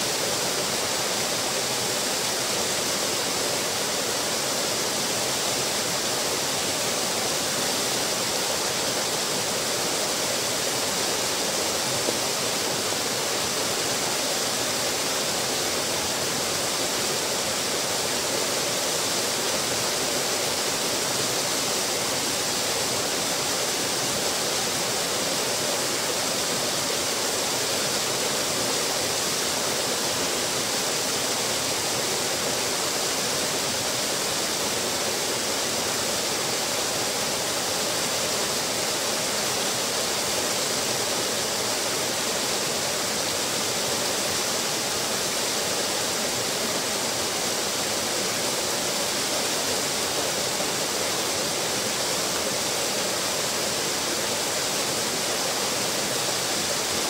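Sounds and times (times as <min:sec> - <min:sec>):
waterfall splashing into pool: 0:00.0 - 0:57.0.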